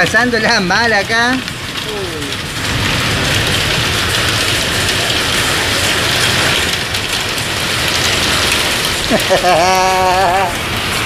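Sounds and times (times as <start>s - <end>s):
heavy rain: 0.0s - 11.0s
strong wind: 0.0s - 11.0s
low rumble: 0.8s - 11.0s.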